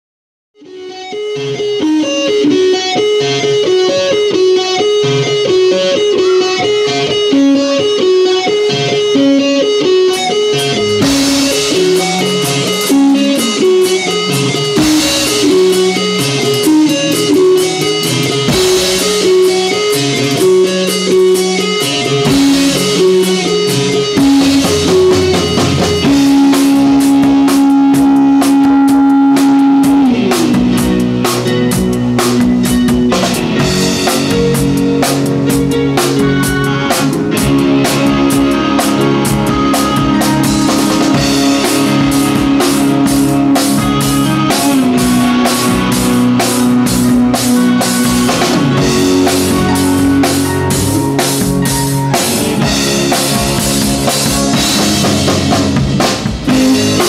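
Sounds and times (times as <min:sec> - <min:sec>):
drum kit: 0:00.6 - 0:57.0
electric guitar riff: 0:00.6 - 0:57.0
rock band playing: 0:00.6 - 0:57.0.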